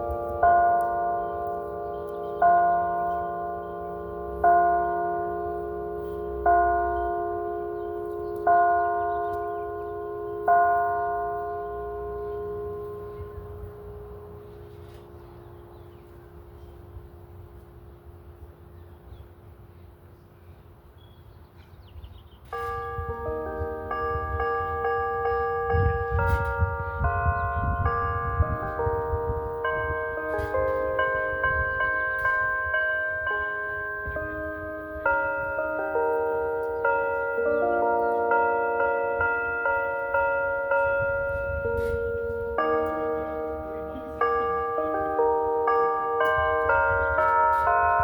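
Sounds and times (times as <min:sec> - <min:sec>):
bell hum: 0:00.0 - 0:16.7, 0:22.6 - 0:48.0
church bell ringing: 0:00.0 - 0:20.1, 0:21.9 - 0:48.0.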